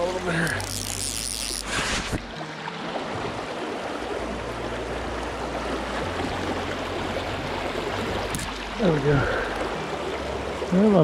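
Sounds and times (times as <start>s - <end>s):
stream water rushing over rocks: 0.0s - 11.0s.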